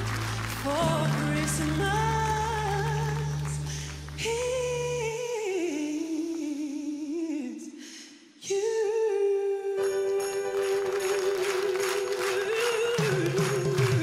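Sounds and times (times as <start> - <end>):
woman singing: 0.0 - 7.8, 8.4 - 14.0.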